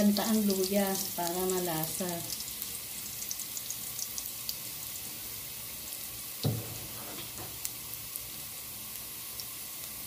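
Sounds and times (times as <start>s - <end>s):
ginger sizzling in oil: 0.0s - 10.0s.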